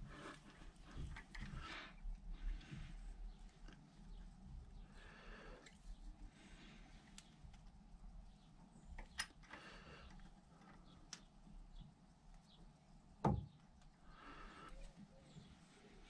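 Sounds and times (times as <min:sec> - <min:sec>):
faint workshop hum: 0:00.0 - 0:16.0.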